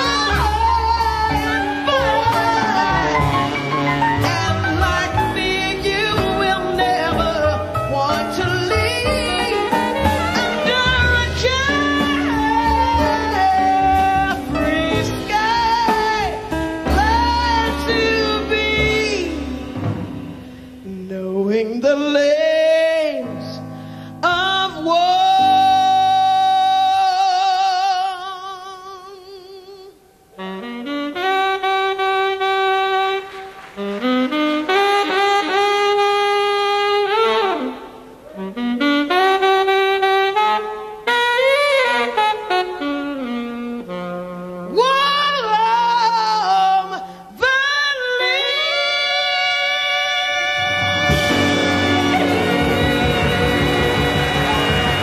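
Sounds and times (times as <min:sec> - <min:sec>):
saxophone solo: 0:00.0 - 0:20.9, 0:29.9 - 0:55.0
big band jazz: 0:00.0 - 0:27.0, 0:30.3 - 0:55.0.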